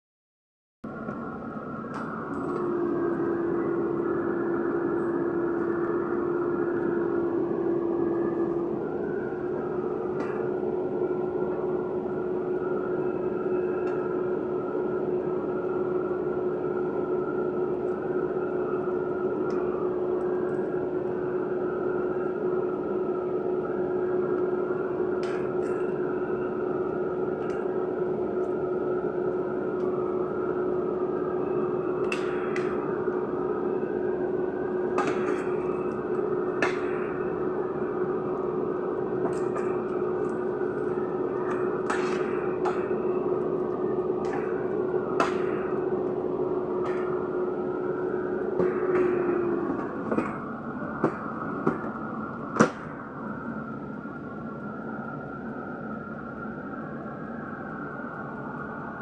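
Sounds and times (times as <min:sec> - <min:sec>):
steady tone: 0:00.8 - 0:57.0
air fryer fan hum: 0:00.9 - 0:53.4.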